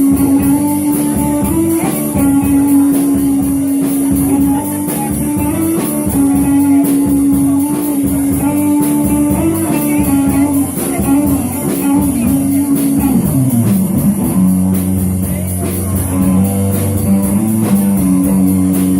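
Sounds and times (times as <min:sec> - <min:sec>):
rock music with guitar and drums: 0:00.0 - 0:18.9.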